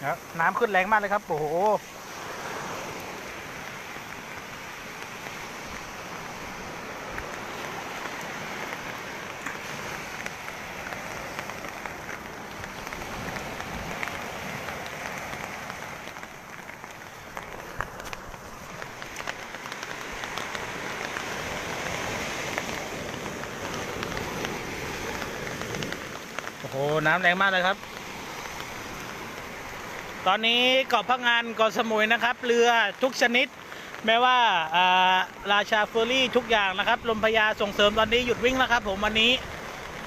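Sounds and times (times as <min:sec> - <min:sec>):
heavy rain: 0:00.0 - 0:40.0
rough surf washing: 0:00.0 - 0:40.0
raindrop ticks: 0:00.2 - 0:40.0.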